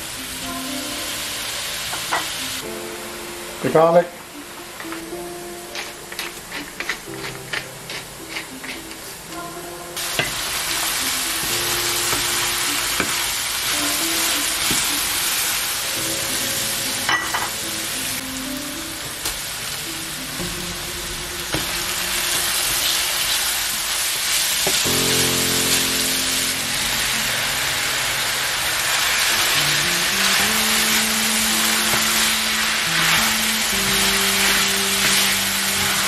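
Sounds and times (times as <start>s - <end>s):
vegetables sizzling in oil: 0.0s - 9.2s, 10.0s - 36.0s
background music: 0.0s - 36.0s.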